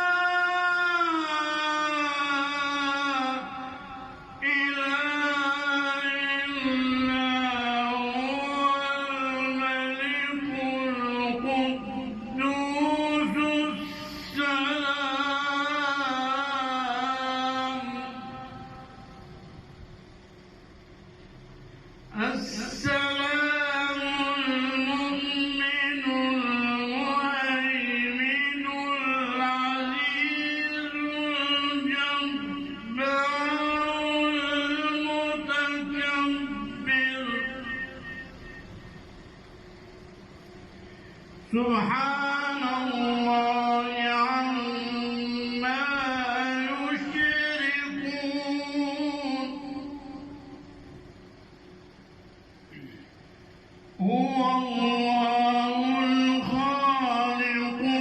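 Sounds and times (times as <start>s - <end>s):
man reciting melodically: 0.0s - 19.2s, 22.0s - 38.7s, 41.4s - 50.9s, 52.7s - 53.2s, 53.8s - 58.0s.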